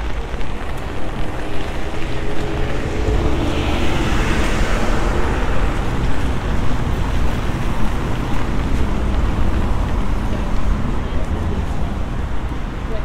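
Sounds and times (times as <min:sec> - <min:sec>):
low rumble: 0:00.0 - 0:12.5
road traffic on wet tarmac: 0:00.0 - 0:13.0.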